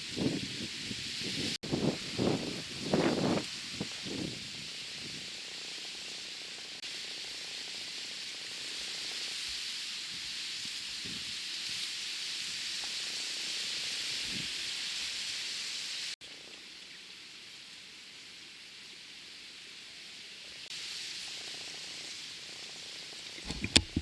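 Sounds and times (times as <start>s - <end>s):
outdoor ambient hiss: 0.0s - 24.0s.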